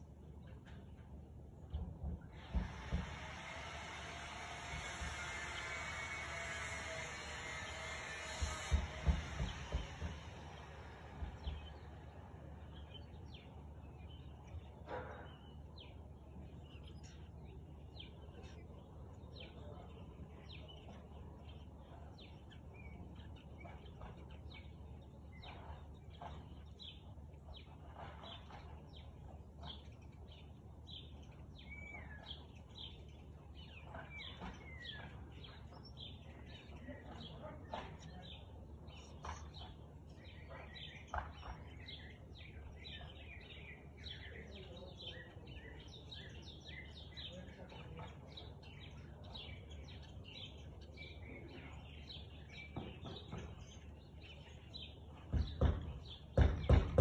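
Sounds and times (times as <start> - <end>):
birds chirping: 0.0 - 57.0
low background hum: 0.0 - 57.0.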